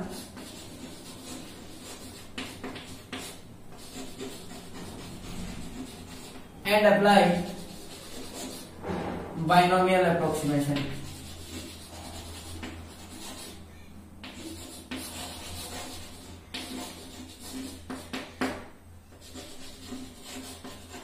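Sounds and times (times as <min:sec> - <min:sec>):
chalk scraping and tapping: 0:00.0 - 0:08.8, 0:10.4 - 0:21.0.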